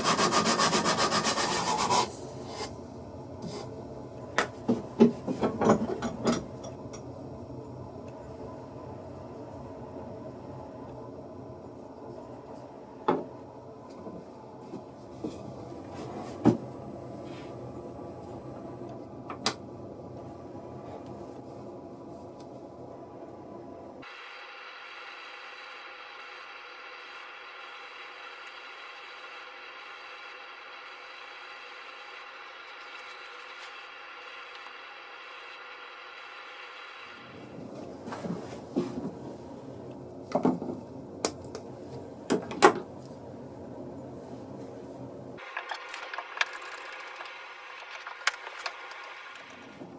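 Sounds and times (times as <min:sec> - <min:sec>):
steady background hum: 0:00.0 - 0:49.9.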